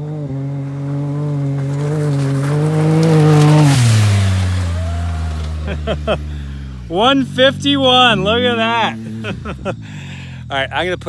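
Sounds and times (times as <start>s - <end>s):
off-road vehicle engine revving: 0.0s - 11.0s
tyre and dirt noise: 0.0s - 11.0s.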